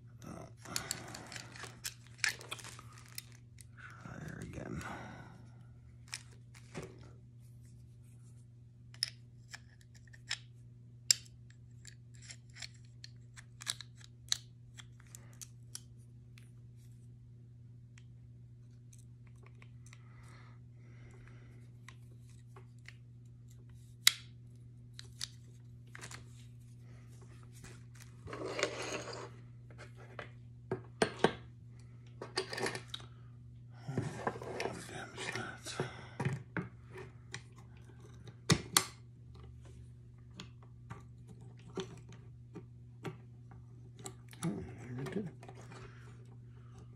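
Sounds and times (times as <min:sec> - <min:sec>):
low hum: 0:00.0 - 0:46.9.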